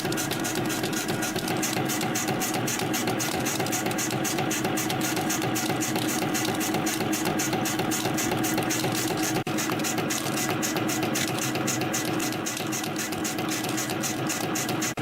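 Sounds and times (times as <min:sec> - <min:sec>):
spring coiling machine pulsing hum: 0:00.0 - 0:15.0.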